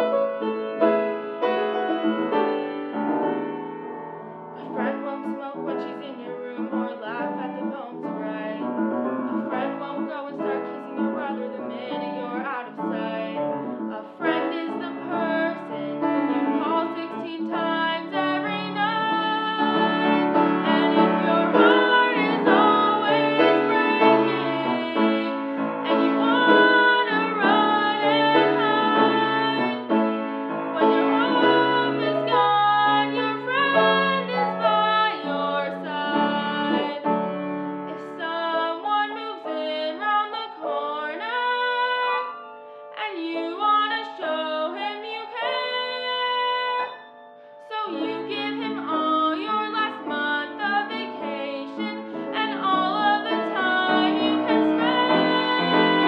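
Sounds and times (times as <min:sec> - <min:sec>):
piano accompaniment: 0:00.0 - 0:56.0
woman singing a ballad: 0:04.6 - 0:30.0, 0:30.7 - 0:37.2, 0:37.9 - 0:47.0, 0:47.6 - 0:56.0.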